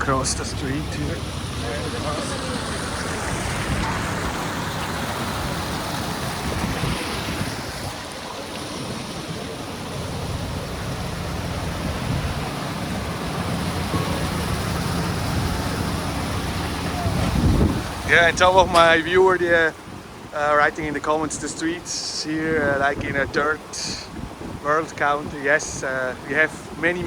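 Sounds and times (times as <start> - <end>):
outdoor hiss: 0.0 - 27.0
wind rumbling on microphone: 0.0 - 27.0.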